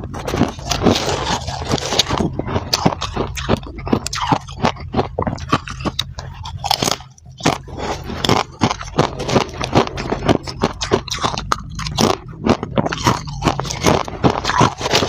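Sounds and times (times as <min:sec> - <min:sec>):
frost being chewed: 0:00.0 - 0:15.0
scratchy scraping: 0:00.0 - 0:15.0.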